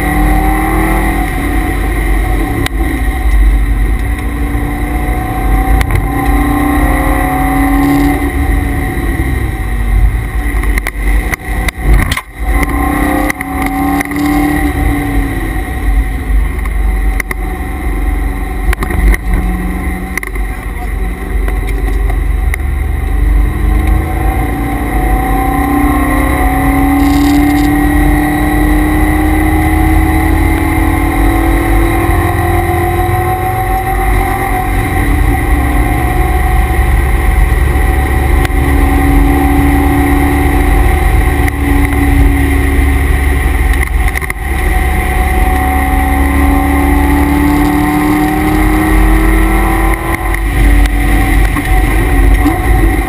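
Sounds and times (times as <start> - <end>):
car engine at full throttle: 0.0 - 53.0
road and wind rumble: 0.0 - 53.0
steady high whine: 0.0 - 53.0.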